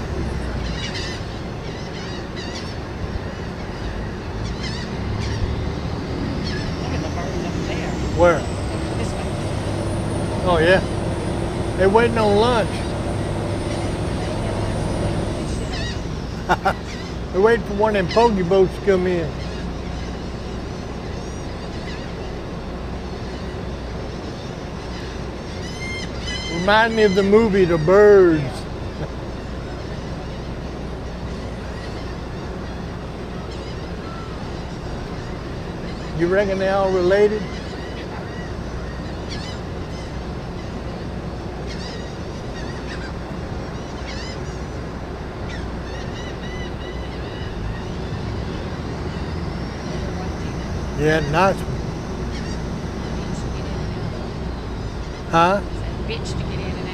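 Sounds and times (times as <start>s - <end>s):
low engine rumble: 0.0s - 56.9s
wind: 0.0s - 56.9s
faint high gull calls: 0.4s - 5.7s, 6.4s - 22.5s, 23.2s - 44.8s, 45.4s - 51.6s, 52.3s - 55.6s.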